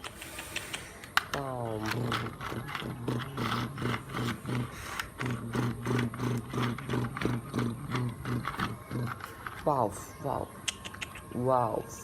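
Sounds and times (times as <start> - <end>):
toy truck motor pulsing hum: 0.0 - 10.1.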